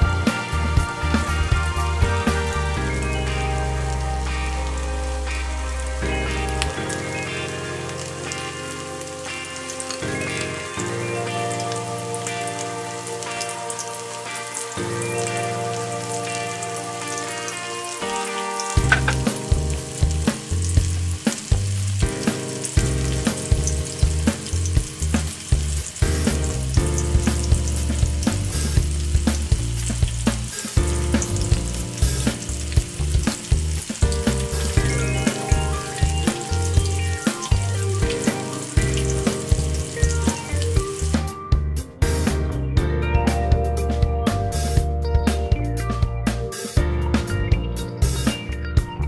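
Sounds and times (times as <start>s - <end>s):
chicken deep-frying in oil: 0.0s - 42.6s, 45.8s - 49.0s
background music with beat: 0.0s - 49.0s.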